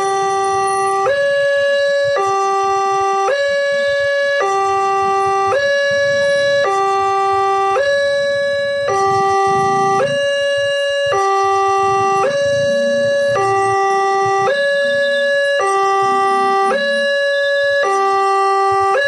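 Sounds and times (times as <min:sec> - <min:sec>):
level-crossing two-tone alarm: 0:00.0 - 0:19.0.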